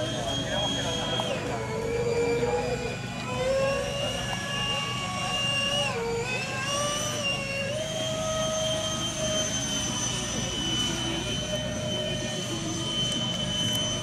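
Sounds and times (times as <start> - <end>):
electric ducted fans whining: 0.0 - 14.0.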